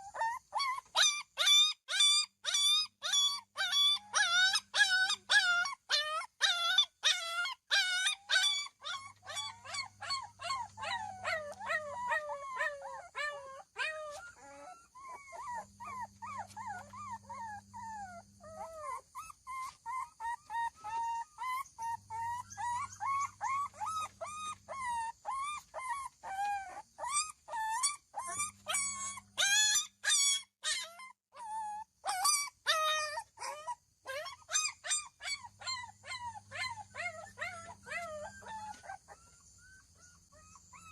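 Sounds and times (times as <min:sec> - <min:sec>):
dogs barking and yelping: 0:00.0 - 0:40.9
dogs whining: 0:00.0 - 0:40.9.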